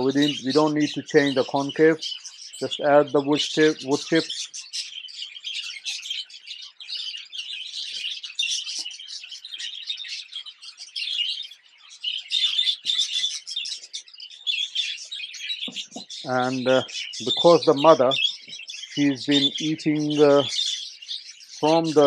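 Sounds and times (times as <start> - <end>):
budgerigars chattering and chirping: 0.0 - 22.0.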